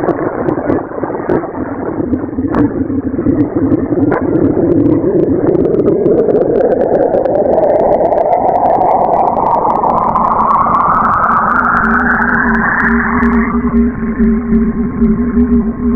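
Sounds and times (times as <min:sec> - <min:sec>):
faint crackles: 0:00.0 - 0:15.9
rushing rumbling drone: 0:00.0 - 0:15.9.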